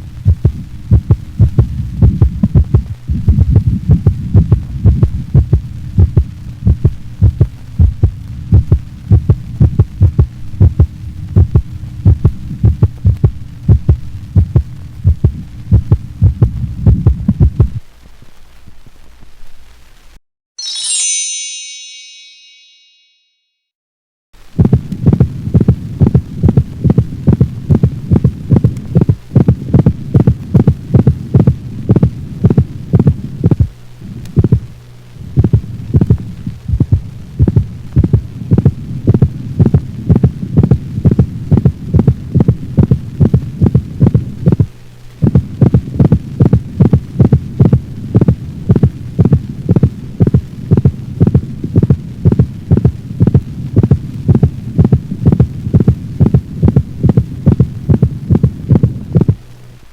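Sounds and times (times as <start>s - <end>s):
heartbeat through stethoscope: 0.0s - 17.8s, 24.6s - 34.7s, 35.3s - 59.4s
steady low hum: 0.0s - 18.0s, 24.4s - 59.9s.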